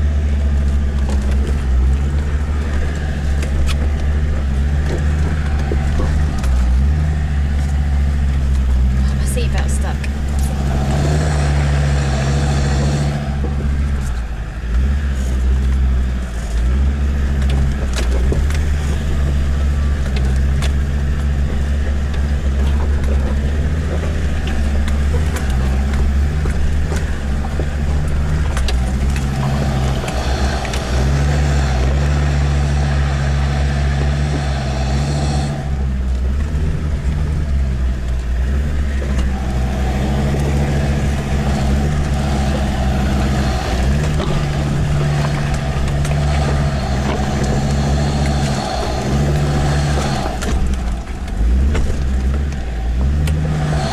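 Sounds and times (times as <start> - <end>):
diesel engine drone in cabin: 0.0 - 53.9
knocks and rattles: 0.0 - 53.9.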